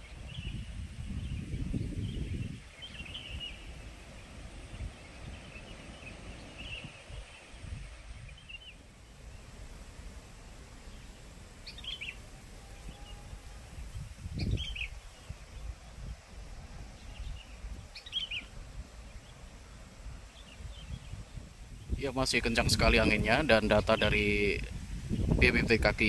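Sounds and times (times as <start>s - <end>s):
bird chirping: 0.0s - 9.8s, 10.6s - 26.0s
wind buffeting microphone: 0.0s - 26.0s.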